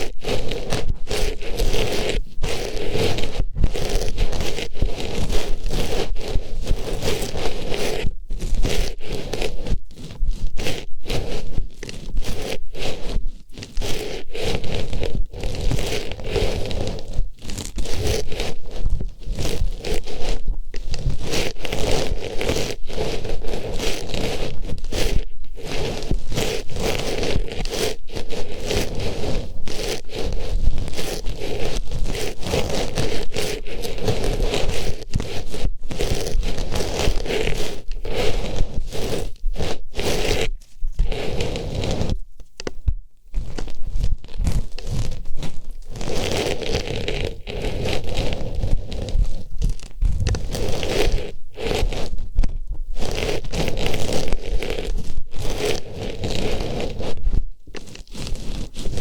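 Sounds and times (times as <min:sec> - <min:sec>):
artificial flower rustling on microphone: 0:00.0 - 0:59.0.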